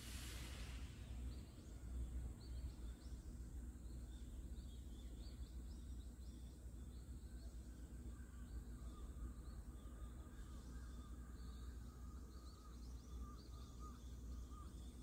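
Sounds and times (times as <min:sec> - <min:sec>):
small birds chirping: 0:00.9 - 0:15.0.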